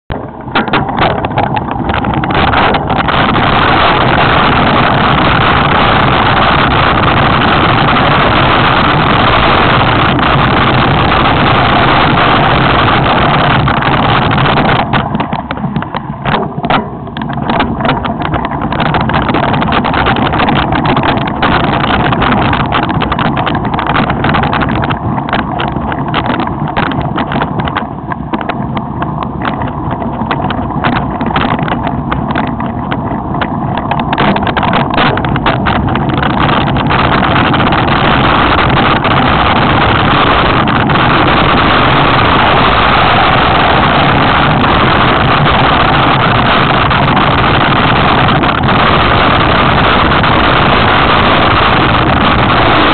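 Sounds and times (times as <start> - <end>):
wind rushing over microphone: 0.0 - 52.9
bike rattling and knocking: 0.1 - 52.9.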